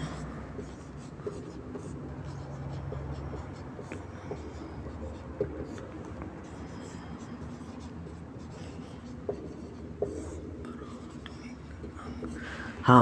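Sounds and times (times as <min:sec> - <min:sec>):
marker scratching on whiteboard: 0:00.0 - 0:13.0.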